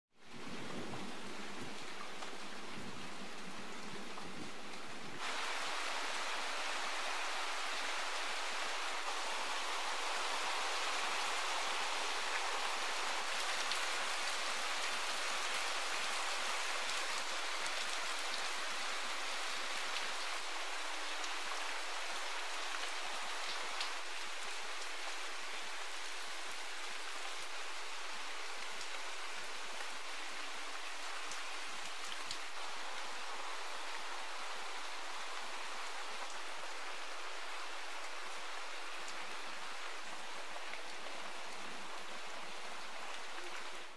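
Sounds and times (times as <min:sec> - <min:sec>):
rain on leaves and ground: 0:00.1 - 0:43.9.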